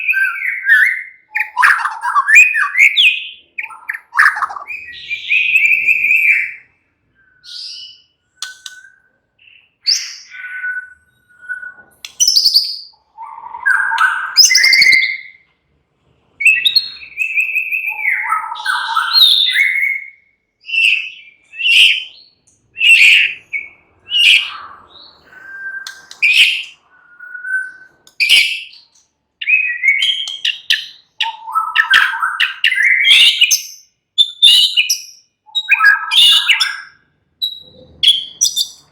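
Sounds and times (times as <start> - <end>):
songbird whistling and trilling: 0.0 - 15.5, 16.4 - 38.9.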